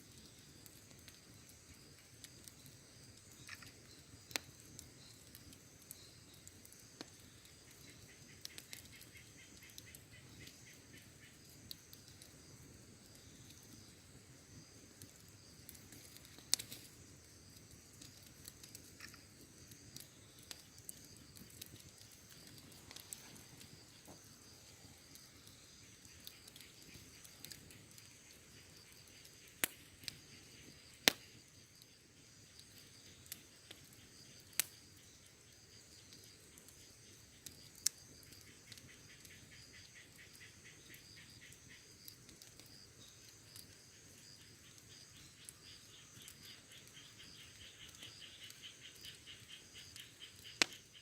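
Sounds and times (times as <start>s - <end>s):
campfire crackling and popping: 0.0s - 51.0s
insects chirring: 0.0s - 51.0s.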